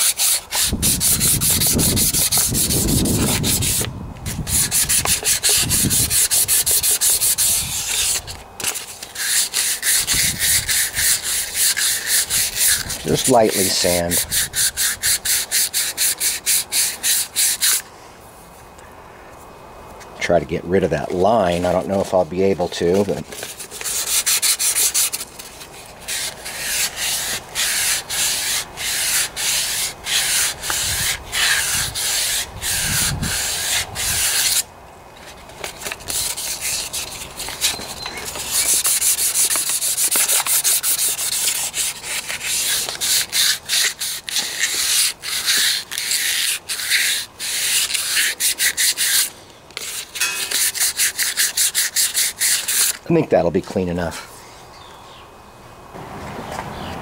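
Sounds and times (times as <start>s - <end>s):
sandpaper rasping on metal: 0.0s - 17.8s, 22.6s - 34.6s, 35.6s - 53.0s.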